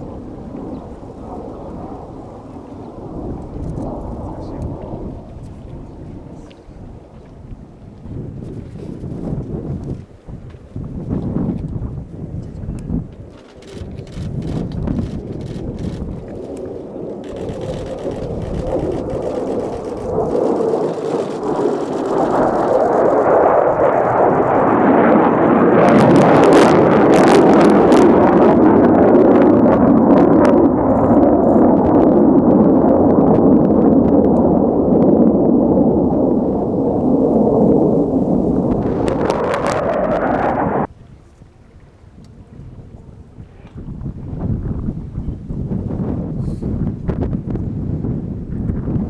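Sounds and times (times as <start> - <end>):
jet engine crackle: 0.0 - 49.0
jet roar: 0.0 - 49.0.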